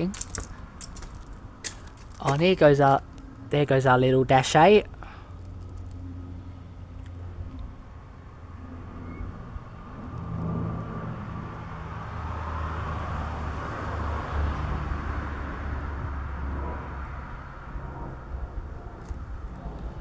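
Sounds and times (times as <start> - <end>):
propeller airliner flying over: 0.0 - 20.0.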